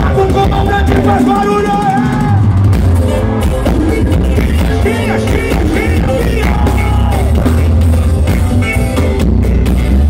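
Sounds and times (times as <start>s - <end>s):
heavy steady bass: 0.0s - 10.0s
live band through sound system: 0.0s - 10.0s.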